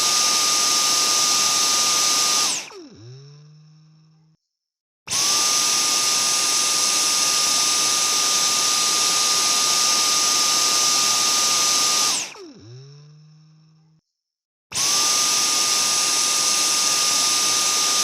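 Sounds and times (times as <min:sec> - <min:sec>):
vacuum cleaner running: 0:00.0 - 0:03.5, 0:05.1 - 0:13.2, 0:14.7 - 0:18.0.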